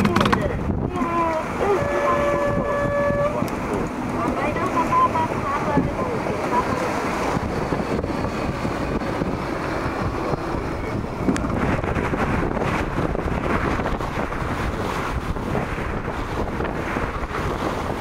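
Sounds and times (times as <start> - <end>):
water rushing past hull: 0.0 - 18.0
wind buffeting microphone: 0.0 - 18.0.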